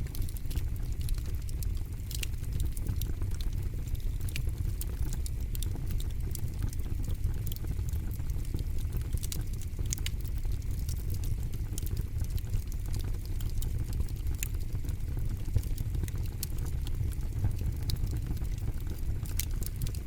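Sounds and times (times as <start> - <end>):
campfire crackling: 0.0 - 20.0
low steady fire rumble: 0.0 - 20.0.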